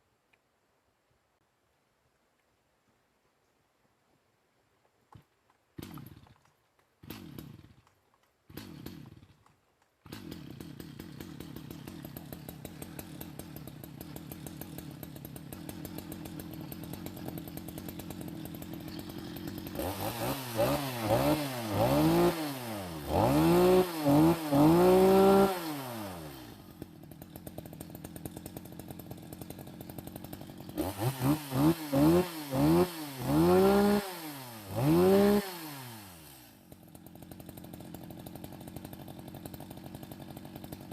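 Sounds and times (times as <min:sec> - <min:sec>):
chainsaw engine revving and idling: 0:05.8 - 0:40.9.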